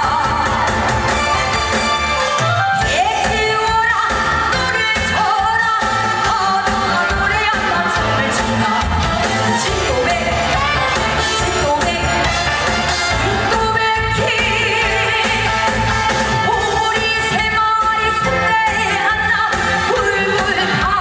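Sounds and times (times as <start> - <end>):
woman singing into a microphone: 0.0 - 1.3, 2.2 - 12.6, 13.2 - 21.0
amplified pop accompaniment: 0.0 - 21.0.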